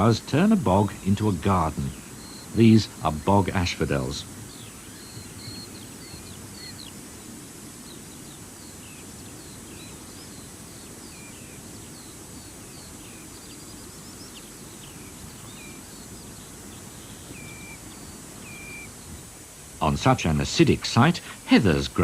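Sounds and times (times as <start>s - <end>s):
birds chirping and whistling: 0.0s - 19.4s.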